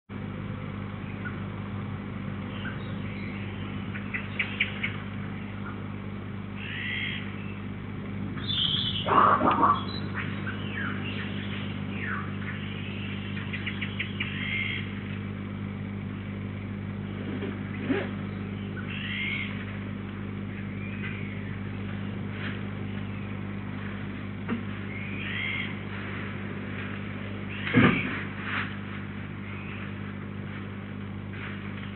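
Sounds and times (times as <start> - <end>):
steady low hum: 0.1 - 31.9
songbirds chirping: 0.2 - 31.9.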